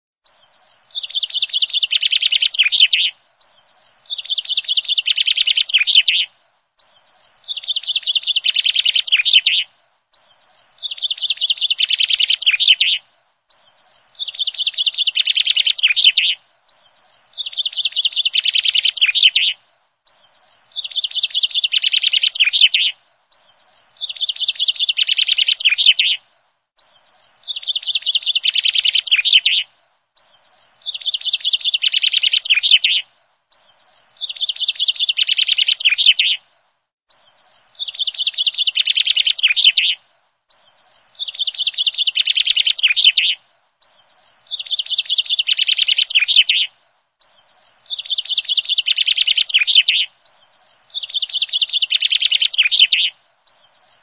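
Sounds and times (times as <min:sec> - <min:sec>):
songbird chirping: 0:00.2 - 0:54.0.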